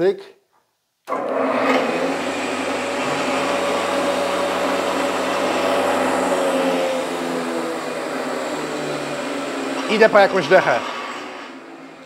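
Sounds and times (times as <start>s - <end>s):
thickness planer idling: 1.1s - 12.0s.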